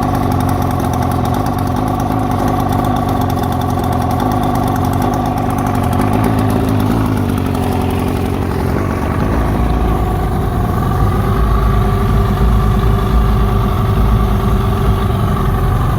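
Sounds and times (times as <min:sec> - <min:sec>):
outboard motor idling roughly: 0:00.0 - 0:15.9.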